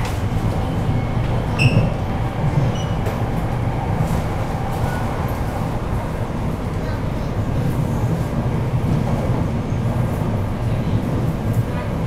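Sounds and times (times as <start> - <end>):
train wheels and motors rumbling: 0.0 - 12.0.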